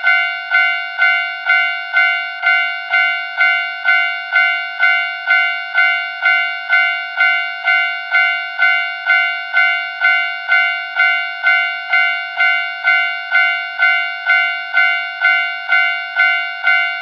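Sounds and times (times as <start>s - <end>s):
railroad crossing bell clanging: 0.0s - 17.0s.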